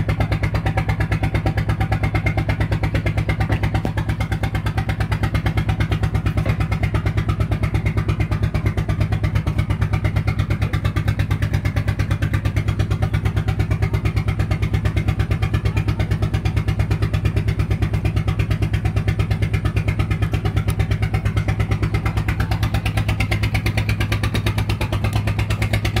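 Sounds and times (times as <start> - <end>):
ferry engine running: 0.0 - 26.0.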